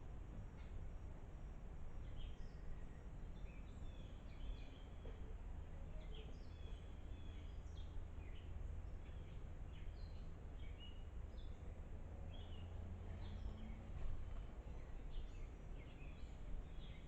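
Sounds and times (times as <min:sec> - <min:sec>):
small birds chirping: 0:02.0 - 0:17.0.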